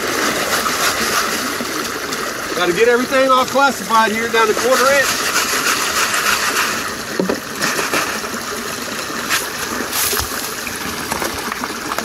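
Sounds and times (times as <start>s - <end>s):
creek running over rocks: 0.0s - 12.0s
water splashing into bucket: 0.0s - 12.0s.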